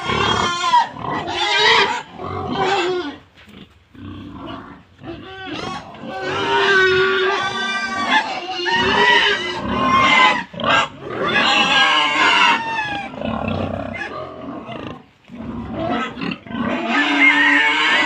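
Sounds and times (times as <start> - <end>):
pigs squealing: 0.0 - 3.2, 4.0 - 18.0.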